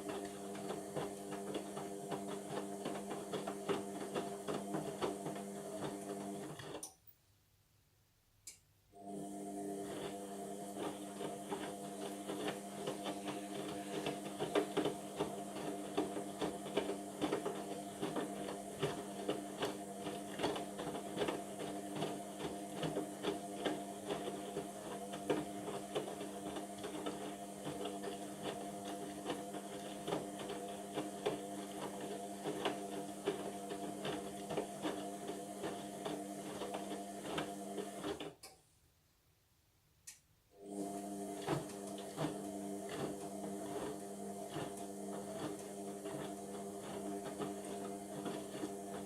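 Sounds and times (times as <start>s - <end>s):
washing machine motor hum: 0.0s - 6.8s, 9.0s - 38.4s, 40.5s - 49.0s.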